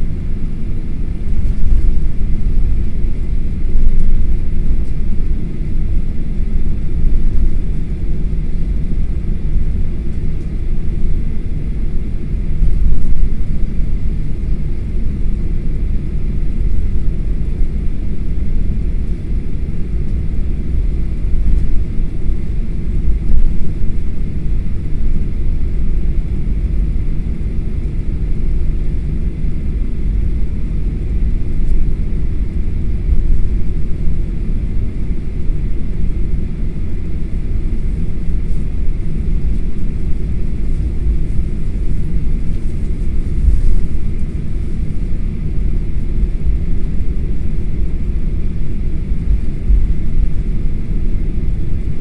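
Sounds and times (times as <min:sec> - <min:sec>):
aircraft cabin engine rumble: 0:00.0 - 0:52.0
airframe rolling on taxiway: 0:00.0 - 0:52.0.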